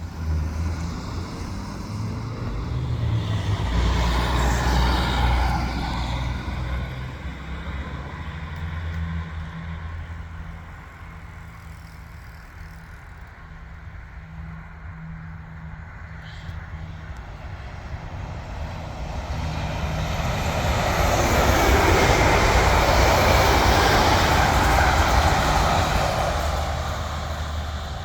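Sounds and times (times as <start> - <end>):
train passing: 0.0 - 13.3, 16.7 - 28.0.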